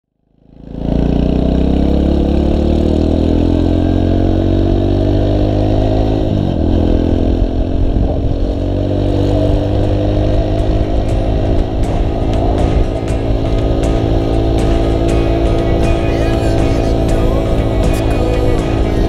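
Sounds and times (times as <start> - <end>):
motorcycle engine running: 0.2 - 19.0.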